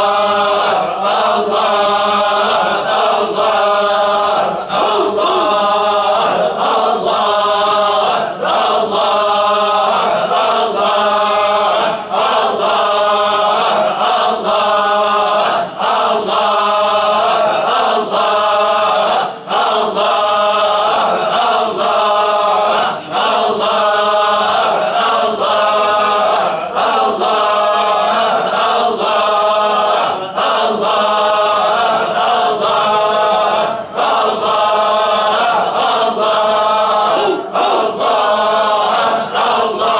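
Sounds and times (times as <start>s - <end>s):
men chanting in unison: 0.0s - 39.9s.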